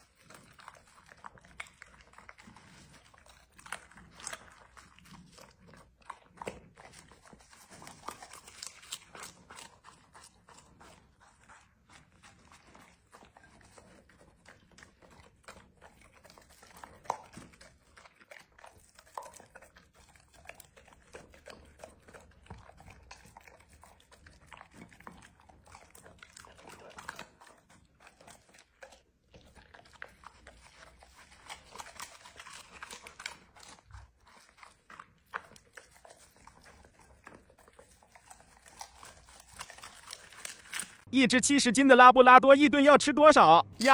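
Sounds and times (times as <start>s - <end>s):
dog chewing and crunching food: 0.0s - 41.8s.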